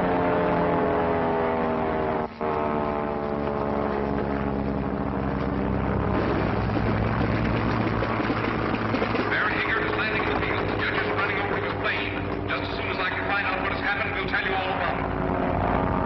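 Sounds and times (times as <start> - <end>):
propeller airplane engine drone: 0.0 - 16.0
rough low rumble: 0.0 - 16.0.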